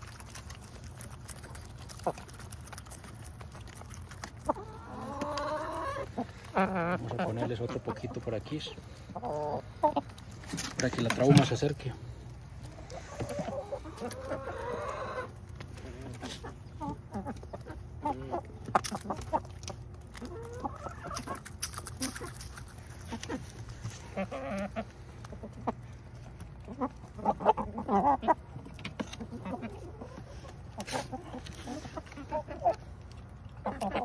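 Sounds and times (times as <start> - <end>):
hens clucking: 0.0 - 34.0.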